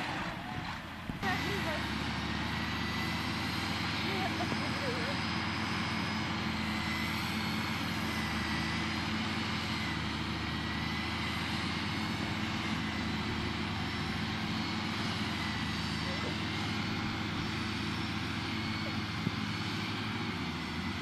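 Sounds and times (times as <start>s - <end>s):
thin steady whine: 0.0s - 21.0s
tractor diesel engines under load: 0.0s - 21.0s.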